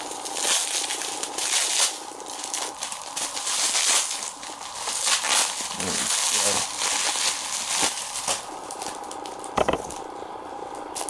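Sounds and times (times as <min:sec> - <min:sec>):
wrapper crinkling and rustling: 0:00.0 - 0:10.0.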